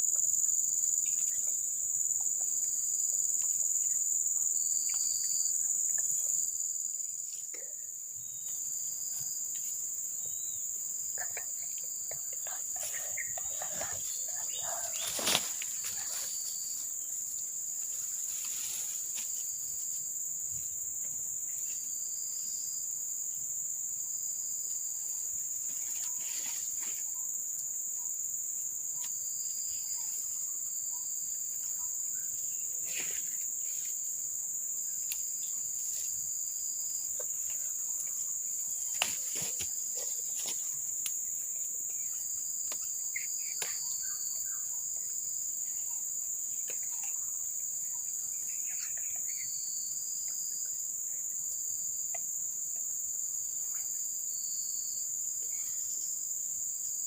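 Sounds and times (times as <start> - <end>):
insects chirring: 0.0 - 57.0
lower insect call: 0.0 - 57.0.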